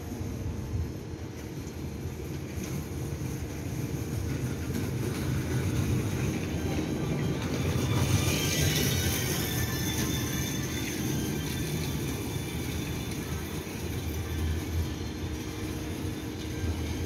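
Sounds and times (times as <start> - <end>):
electric train rumbling on rails: 0.0 - 17.0.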